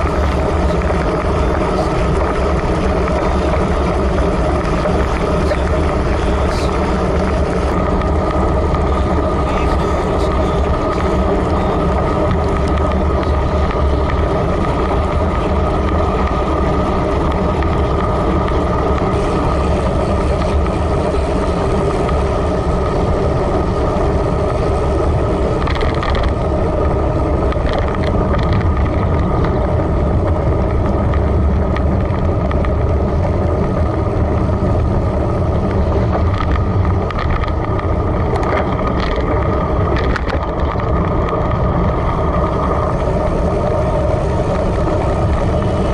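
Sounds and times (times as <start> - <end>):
bicycle road rumble: 0.0 - 45.9
wind rush: 0.0 - 45.9.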